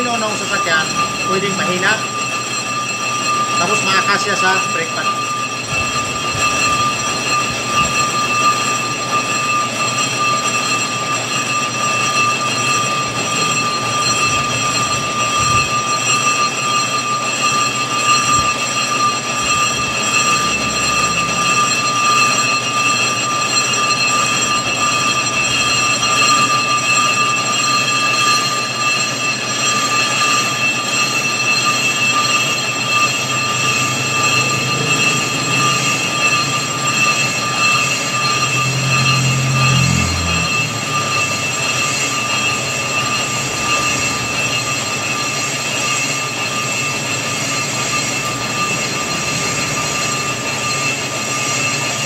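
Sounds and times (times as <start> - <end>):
lathe cutting tool squealing: 0.0 - 52.0
lathe machine running: 0.0 - 52.0.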